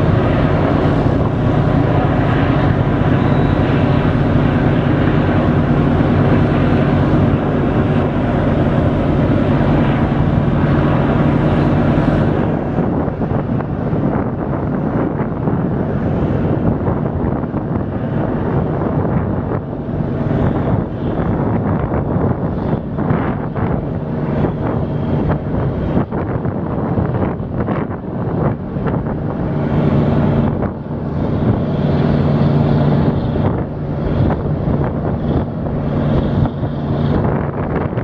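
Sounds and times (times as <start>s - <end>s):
ship engines droning: 0.0s - 38.0s
wind buffeting microphone: 0.0s - 38.0s.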